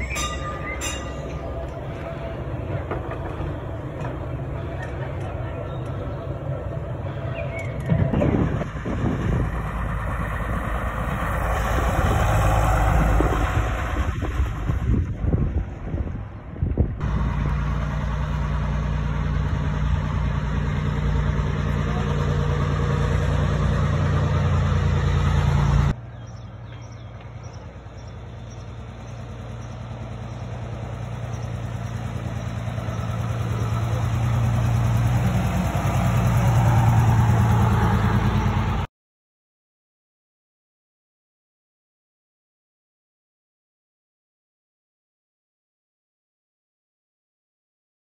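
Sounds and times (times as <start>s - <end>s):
bus engine running: 0.0s - 38.9s
vehicle engine approaching: 0.0s - 38.9s.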